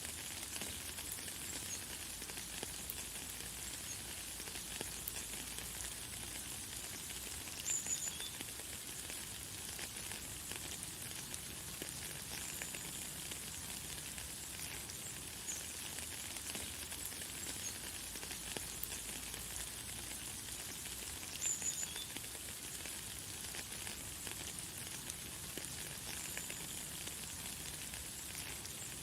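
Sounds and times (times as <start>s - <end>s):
light rain falling: 0.0s - 29.0s.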